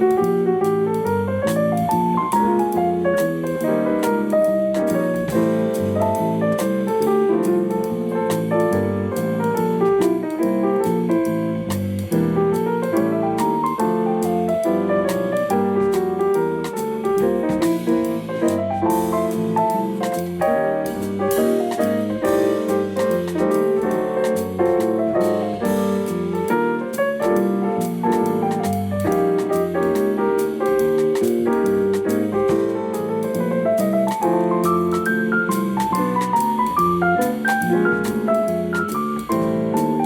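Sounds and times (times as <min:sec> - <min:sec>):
piano-type keyboard music: 0:00.0 - 0:40.0.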